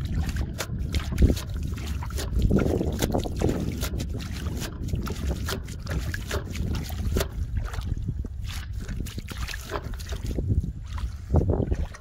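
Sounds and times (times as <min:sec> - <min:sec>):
small water splashes: 0:00.0 - 0:12.0
wind rumble on microphone: 0:00.0 - 0:12.0.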